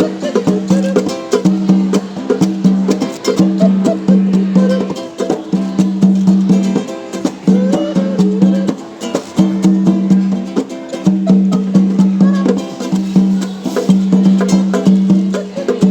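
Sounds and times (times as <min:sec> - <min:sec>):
berimbau playing: 0:00.0 - 0:15.9.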